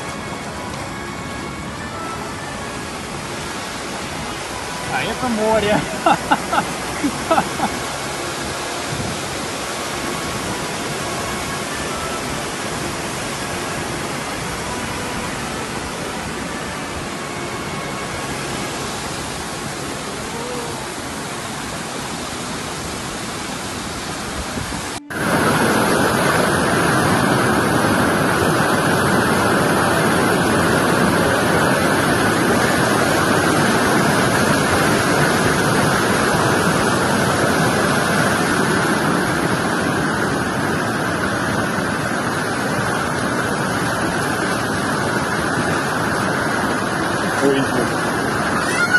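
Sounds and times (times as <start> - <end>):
floodwater rushing: 0.0 - 48.9.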